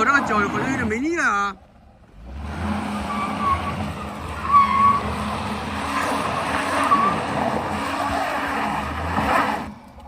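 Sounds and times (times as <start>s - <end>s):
car engine: 0.0s - 10.0s
car tyres spinning and squealing: 1.8s - 10.0s.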